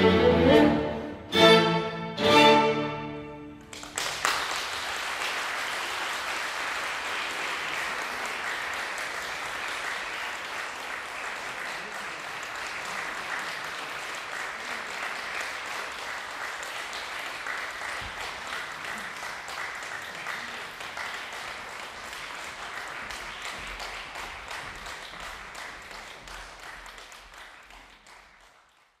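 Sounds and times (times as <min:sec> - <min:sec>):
audience applauding: 0:03.6 - 0:29.0.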